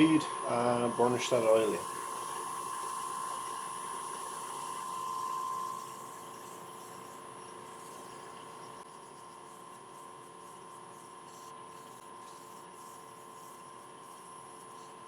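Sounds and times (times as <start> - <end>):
wood lathe whining: 0.0 - 15.0.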